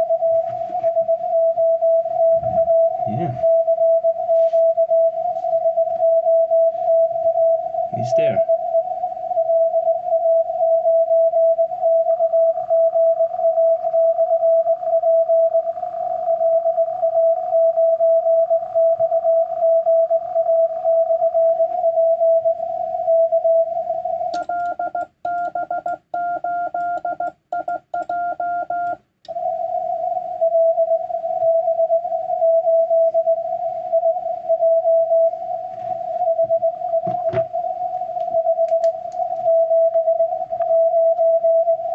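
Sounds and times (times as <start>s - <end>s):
morse code tone: 0.0s - 15.6s, 16.4s - 23.8s, 24.4s - 41.9s.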